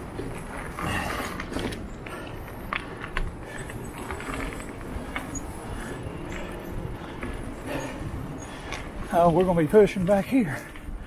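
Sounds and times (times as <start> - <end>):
bike rattling over bumps: 0.0 - 11.0
bike tyres rumbling on dirt: 0.0 - 11.0.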